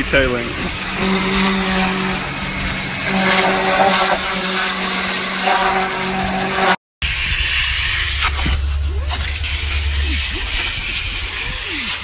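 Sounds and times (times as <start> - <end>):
pump humming: 0.0 - 11.8
pressure washer spray hissing: 0.0 - 12.0.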